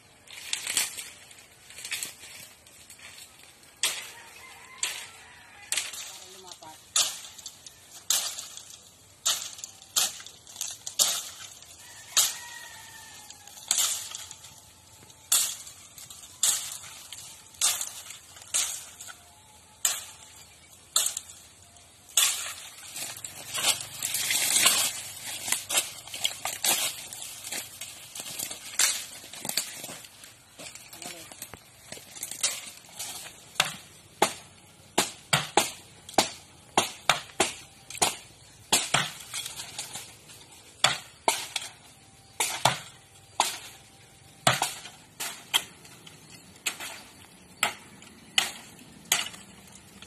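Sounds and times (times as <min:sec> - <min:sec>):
cut stems rustling: 0:00.1 - 0:42.6.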